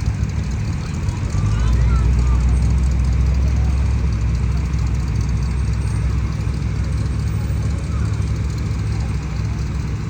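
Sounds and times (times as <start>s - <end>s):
vehicle engine deep rumble: 0.0s - 10.0s.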